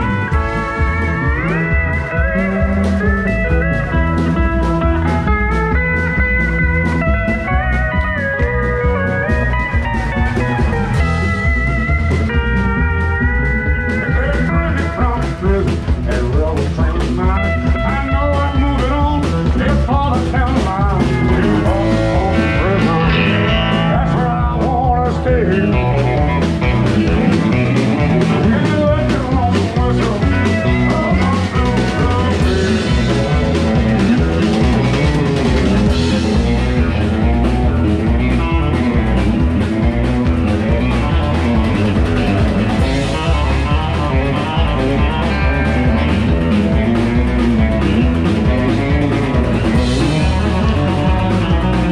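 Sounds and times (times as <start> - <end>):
bass guitar: 0.0 - 51.9
drum kit beat: 0.0 - 51.9
electric guitar: 0.0 - 51.9
pedal steel guitar: 0.0 - 51.9.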